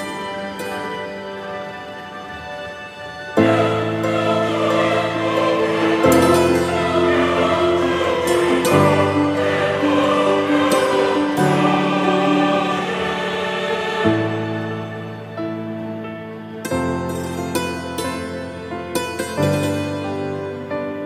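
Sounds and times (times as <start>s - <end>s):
choir-like singing: 0.0s - 21.0s
slow held chords: 0.0s - 21.0s.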